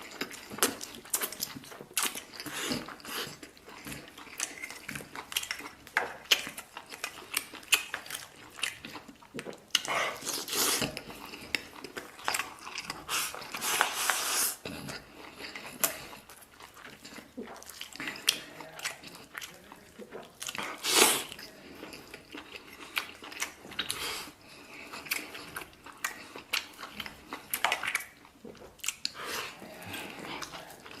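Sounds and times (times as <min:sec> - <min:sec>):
chewing and mouth noises: 0:00.0 - 0:31.0.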